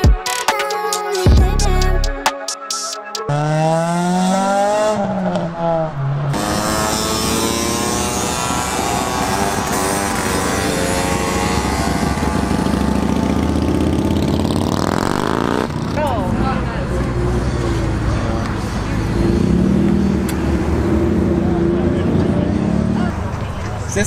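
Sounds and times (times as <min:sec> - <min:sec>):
engine revving: 0:03.3 - 0:23.3
vehicle engines passing: 0:03.3 - 0:24.0.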